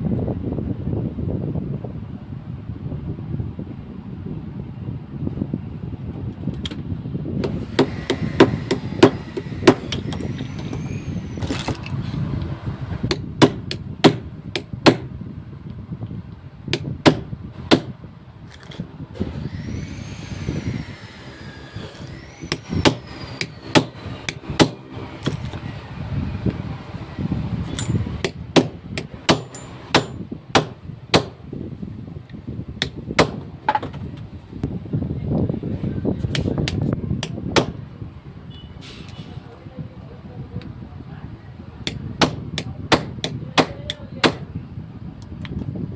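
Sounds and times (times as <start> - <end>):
steady fan hum: 0.0 - 45.9.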